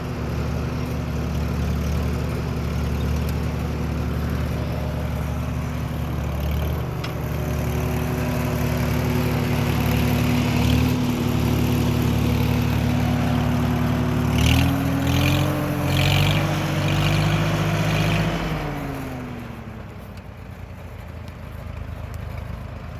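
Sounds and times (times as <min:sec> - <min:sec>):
tractor engine revving: 0:00.0 - 0:19.8.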